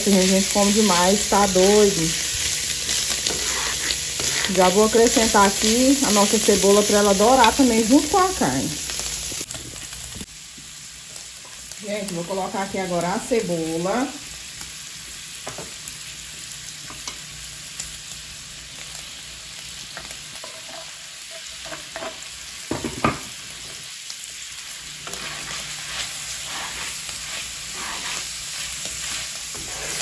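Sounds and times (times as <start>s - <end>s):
meat and onion sizzling on a griddle: 0.0s - 30.0s.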